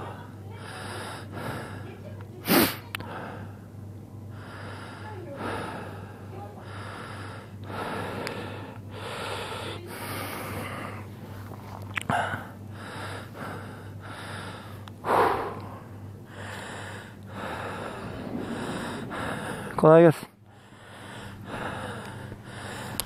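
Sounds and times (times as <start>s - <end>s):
steady low hum: 0.0s - 23.0s
man breathing: 4.3s - 23.0s.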